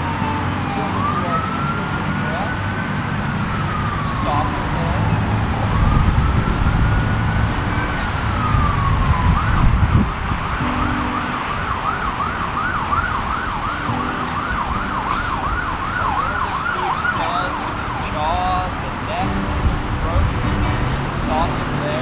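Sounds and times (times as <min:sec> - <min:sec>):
emergency vehicle siren: 0:00.0 - 0:22.0
traffic rumble: 0:00.0 - 0:22.0.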